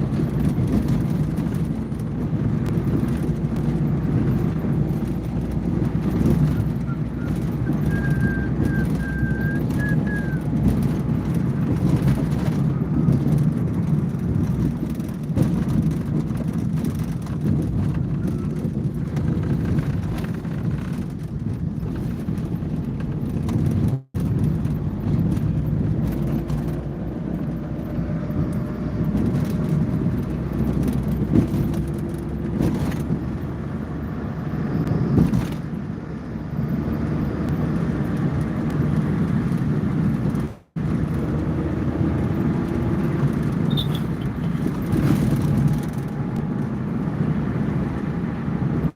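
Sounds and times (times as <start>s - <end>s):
car driving rumble: 0.0s - 48.9s.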